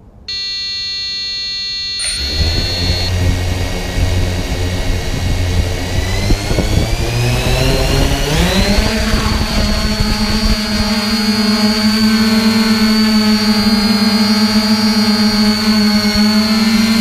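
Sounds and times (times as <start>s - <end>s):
drone motors whining: 0.0s - 17.0s
steady electronic tone: 0.0s - 17.0s.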